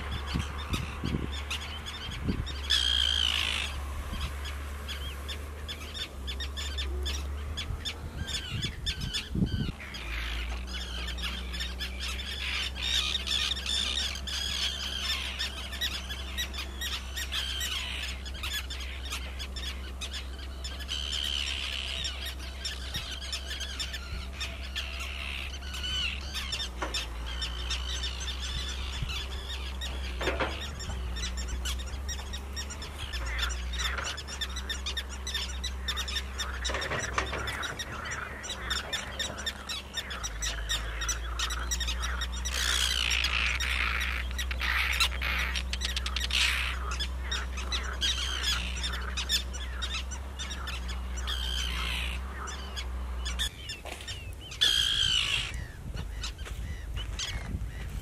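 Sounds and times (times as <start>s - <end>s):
terns calling: 0.0s - 58.0s.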